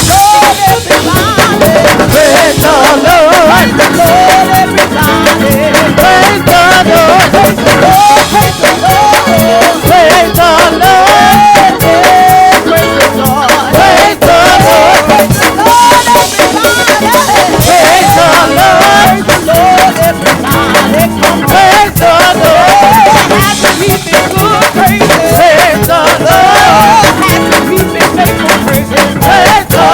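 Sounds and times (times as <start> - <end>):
live band playing: 0.0 - 29.9
rapid drum hits: 0.0 - 29.9
wavering melodic lead line: 0.0 - 29.9.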